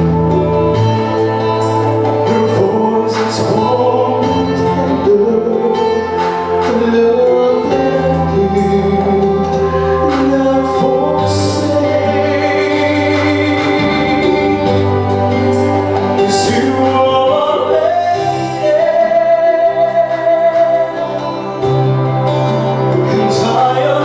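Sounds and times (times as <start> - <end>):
instrumental backing track: 0.0 - 24.0
man singing into microphone: 1.4 - 24.0.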